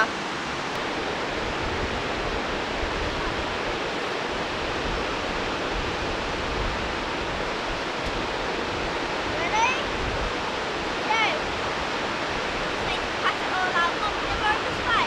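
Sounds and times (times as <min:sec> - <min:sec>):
surf hissing: 0:00.0 - 0:15.0
wind: 0:00.0 - 0:15.0.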